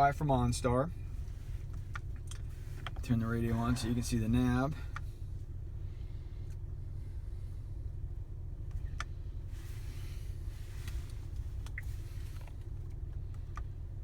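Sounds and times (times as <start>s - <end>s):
low cabin hum: 0.0s - 14.0s.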